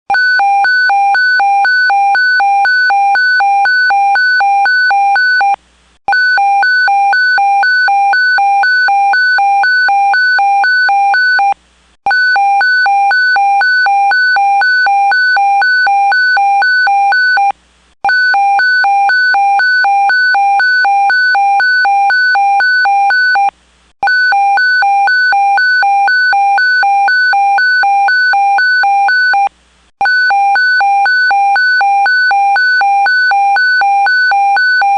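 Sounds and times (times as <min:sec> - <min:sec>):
electronic alarm beeping rapidly: 0:00.1 - 0:34.9.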